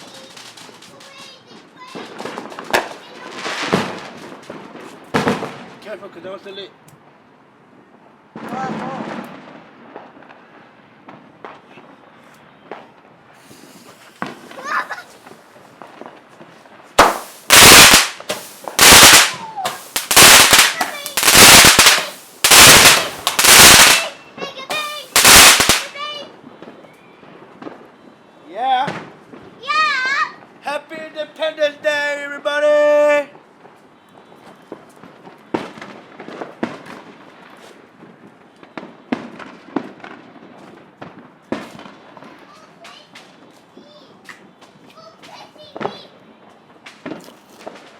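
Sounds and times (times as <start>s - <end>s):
firework bursts: 0.0s - 6.2s, 8.3s - 28.1s, 28.8s - 47.9s.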